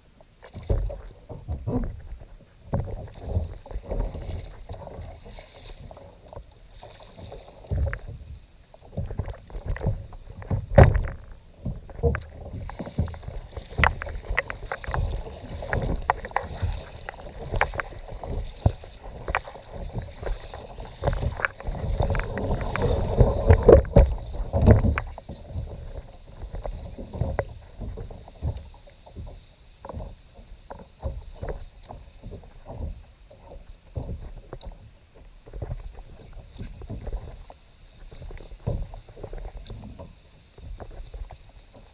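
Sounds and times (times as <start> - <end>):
low rumble of water: 0.0 - 41.9.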